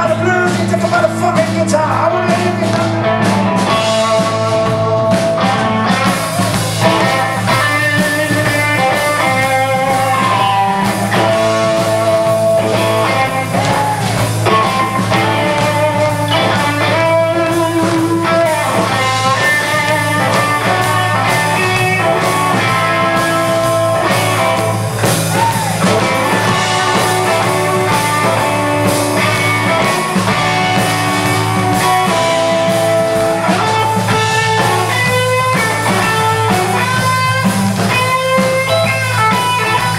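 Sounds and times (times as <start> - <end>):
electric bass: 0.0 - 39.9
lead electric guitar: 0.0 - 39.9
steady drum beat: 0.0 - 39.9.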